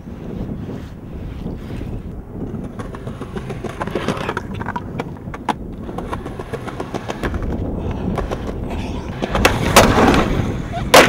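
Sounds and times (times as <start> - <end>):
skateboard wheels rumbling: 0.0 - 11.0.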